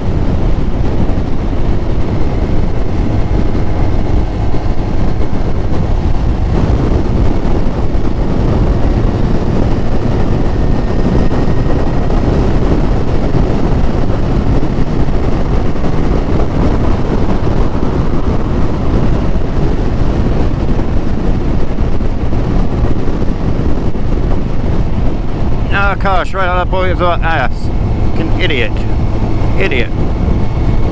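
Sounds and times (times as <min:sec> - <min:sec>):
motorcycle engine running: 0:00.0 - 0:30.9
wind rushing over microphone: 0:00.0 - 0:30.9.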